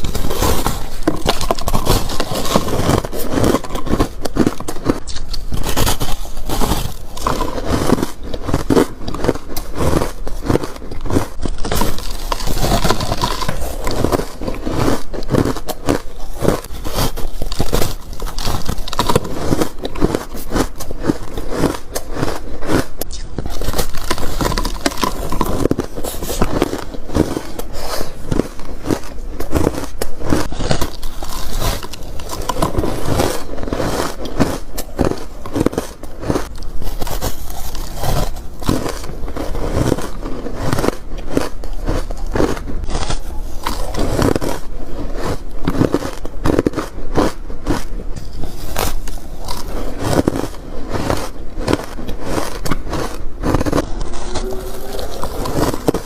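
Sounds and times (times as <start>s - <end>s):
ice being crunched: 0.0s - 56.0s.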